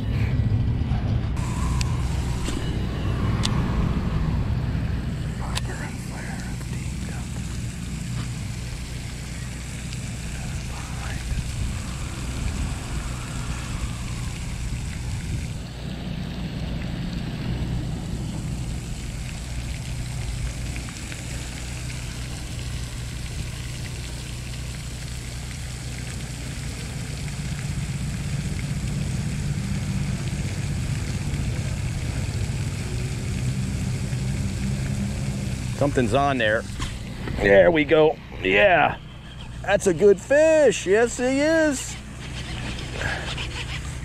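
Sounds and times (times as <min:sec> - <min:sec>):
motor running: 0:01.4 - 0:33.2, 0:34.0 - 0:44.0
water splashing: 0:01.4 - 0:44.0.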